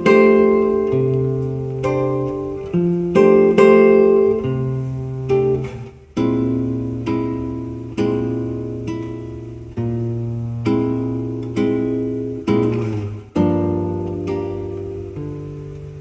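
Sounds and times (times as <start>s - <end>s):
guitar chords over speakers: 0.0s - 16.0s.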